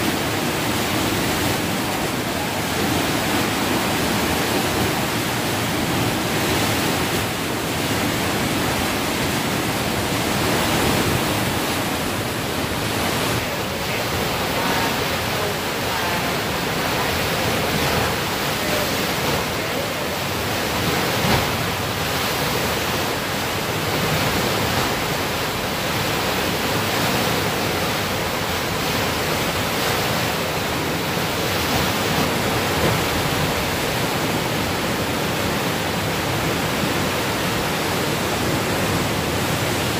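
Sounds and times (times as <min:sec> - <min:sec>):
water rushing under sluice gate: 0:00.0 - 0:39.9.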